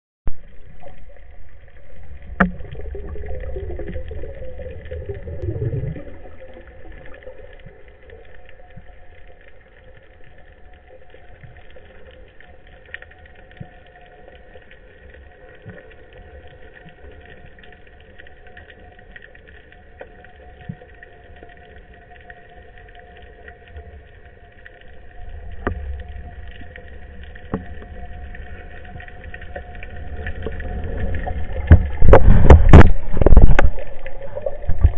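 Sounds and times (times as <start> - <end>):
underwater rumble of rushing water: 0.3 - 34.9
faint crackling ticks: 0.4 - 34.9.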